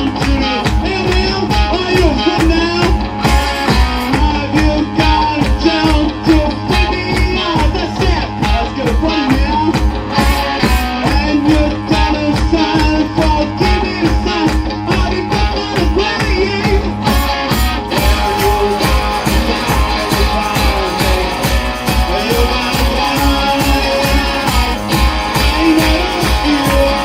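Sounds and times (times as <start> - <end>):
electric guitar: 0.0 - 27.0
fast drum beat: 0.0 - 27.0.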